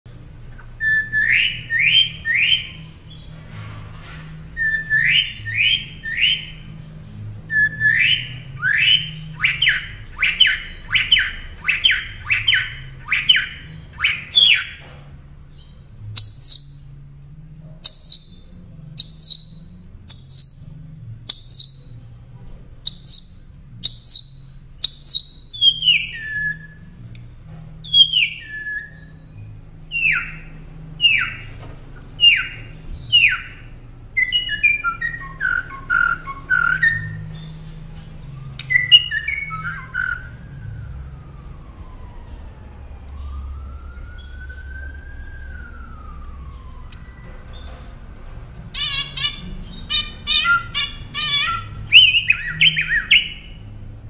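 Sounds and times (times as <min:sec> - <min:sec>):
mockingbird singing: 0:00.4 - 0:03.4, 0:04.5 - 0:17.1, 0:17.8 - 0:22.2, 0:22.8 - 0:27.0, 0:27.8 - 0:41.0, 0:44.1 - 0:53.8.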